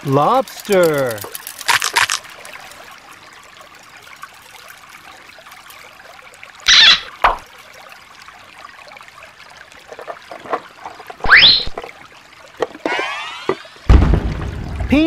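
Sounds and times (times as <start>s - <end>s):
stream trickling over stones: 0.0s - 15.0s.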